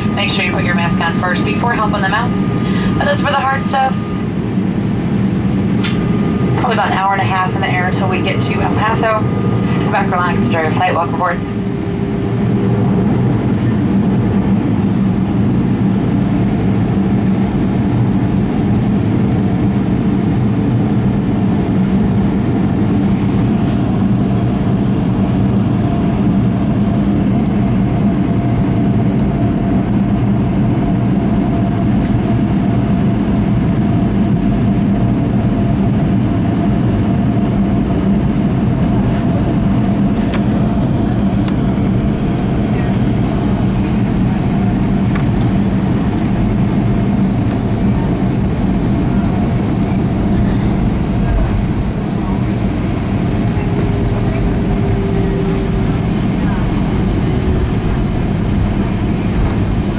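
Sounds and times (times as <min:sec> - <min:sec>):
faint steady whine: 0:00.0 - 0:59.9
jet engine drone in cabin: 0:00.0 - 0:59.9.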